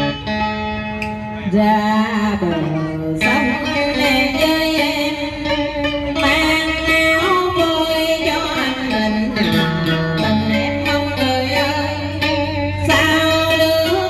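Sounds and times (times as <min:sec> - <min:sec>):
guitar accompaniment: 0:00.0 - 0:14.0.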